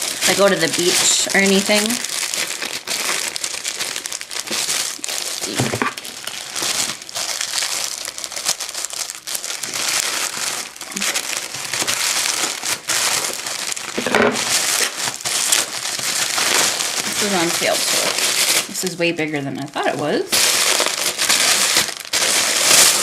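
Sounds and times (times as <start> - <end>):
plastic crinkling and rustling: 0.0 - 23.0.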